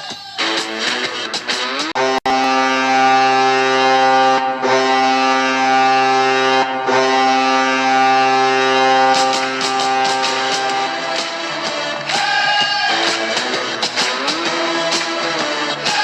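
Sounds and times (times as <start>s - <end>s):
goal horn blasts: 1.8s - 16.0s.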